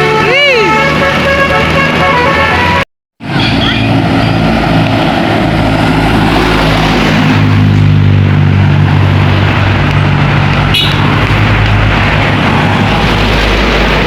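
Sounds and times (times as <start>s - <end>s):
diesel bus engine droning: 0.0s - 14.0s.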